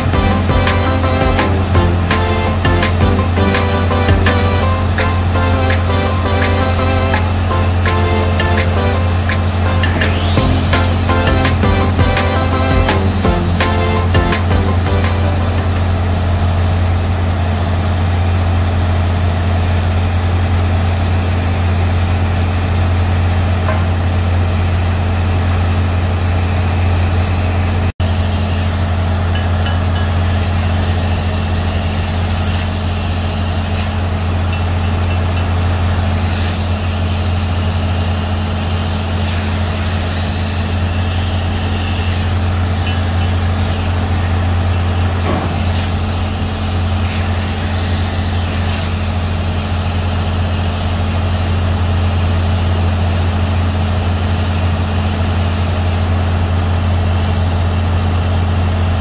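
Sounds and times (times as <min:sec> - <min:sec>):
heavy engine idling: 0:00.0 - 0:59.0.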